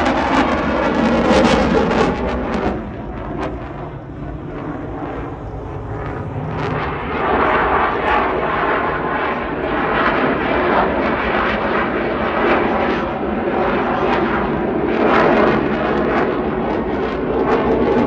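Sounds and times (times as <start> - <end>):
airplane flying by: 0.0 - 18.0.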